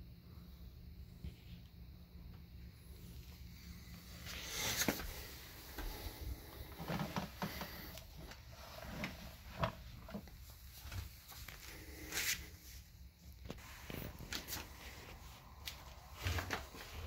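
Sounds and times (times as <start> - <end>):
low steady hum: 0.0 - 17.0
rustling: 2.8 - 17.0.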